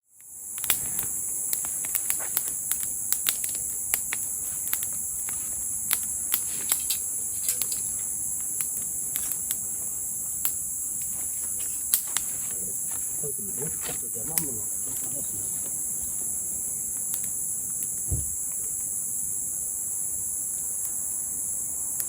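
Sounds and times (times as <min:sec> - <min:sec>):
crickets chirping: 0:00.0 - 0:22.0
campfire crackling and popping: 0:00.1 - 0:22.0.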